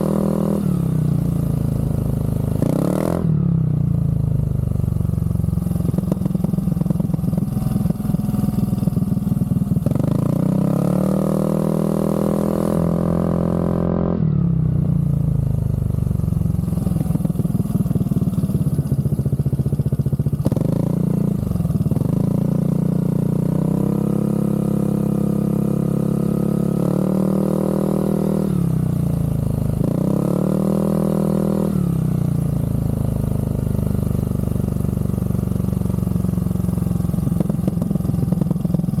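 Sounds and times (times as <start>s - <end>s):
scooter engine revving: 0.0s - 39.0s.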